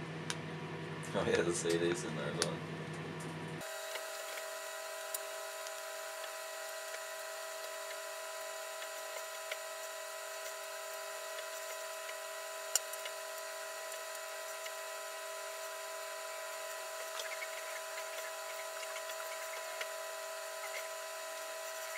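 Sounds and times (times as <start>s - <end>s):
microwave oven humming: 0.0s - 21.9s.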